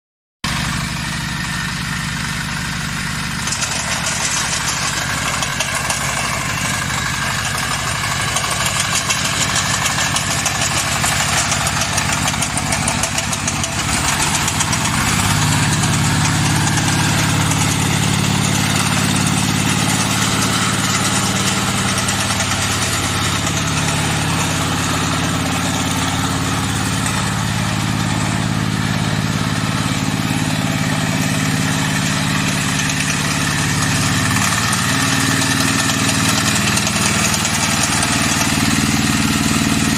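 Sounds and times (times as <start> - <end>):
tractor engine idling: 0.4 - 39.9.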